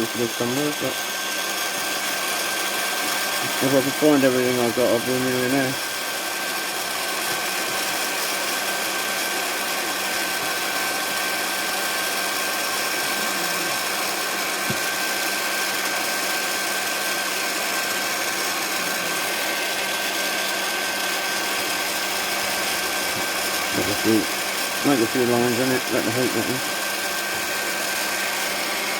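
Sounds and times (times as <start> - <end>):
heat gun fan blowing: 0.0 - 28.9.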